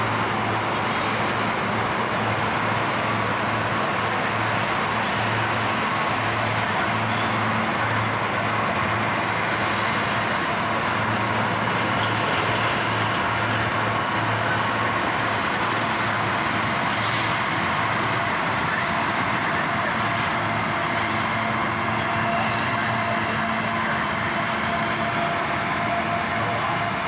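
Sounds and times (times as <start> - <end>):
diesel locomotive engine hum: 0.0 - 27.0
train wheels rumbling: 0.0 - 27.0.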